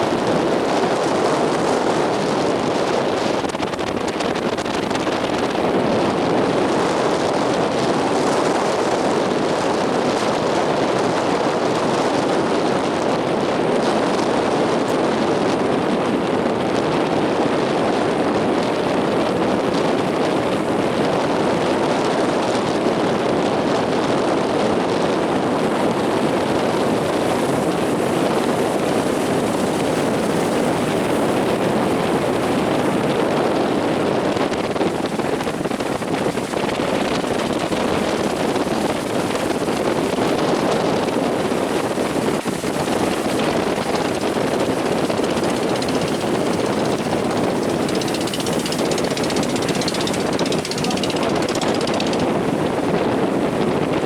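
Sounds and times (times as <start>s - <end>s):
strong wind over microphone: 0.0s - 54.0s.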